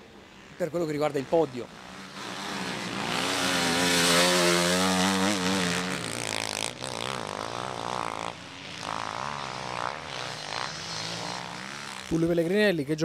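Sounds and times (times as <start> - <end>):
motorcycles revving past: 0.0 - 12.5.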